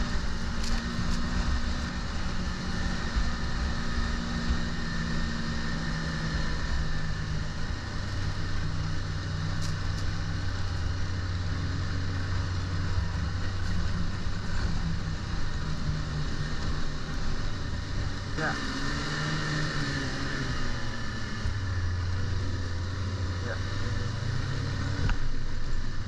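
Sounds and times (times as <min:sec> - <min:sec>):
snowmobile engine droning: 0:00.0 - 0:26.0.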